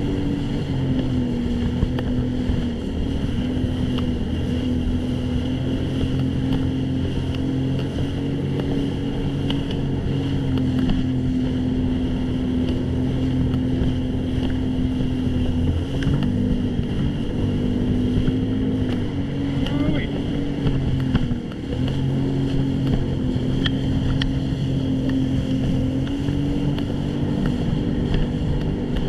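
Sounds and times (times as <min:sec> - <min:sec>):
jet ski engine running: 0:00.0 - 0:29.0.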